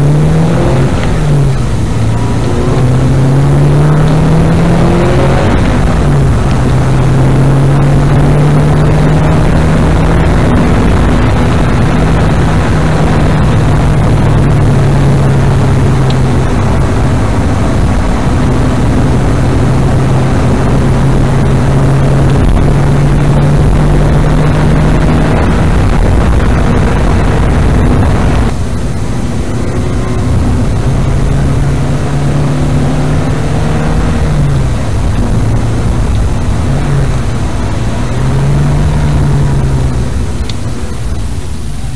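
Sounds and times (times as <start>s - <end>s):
car engine running hard: 0.0s - 41.9s
road noise: 0.0s - 41.9s.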